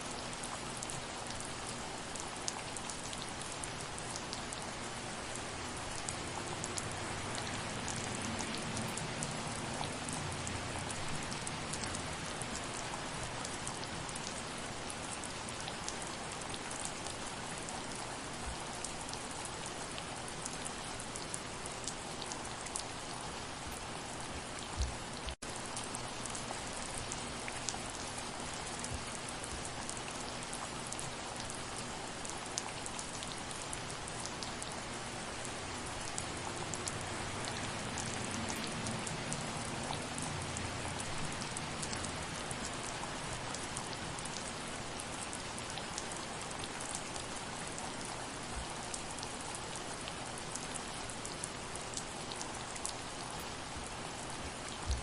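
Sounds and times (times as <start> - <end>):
soft rain with ticking drops: 0.0 - 55.0.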